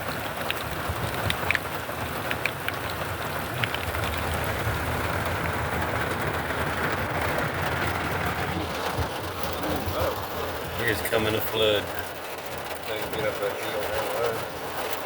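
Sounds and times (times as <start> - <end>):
heavy rain falling: 0.0 - 15.0
sharp raindrop hits: 0.0 - 15.0.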